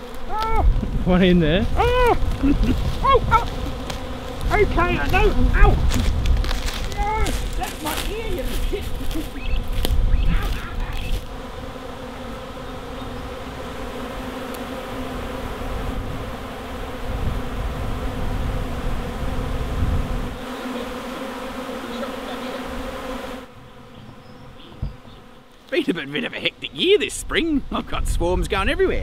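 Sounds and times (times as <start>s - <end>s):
honey bees buzzing: 0.0s - 28.6s.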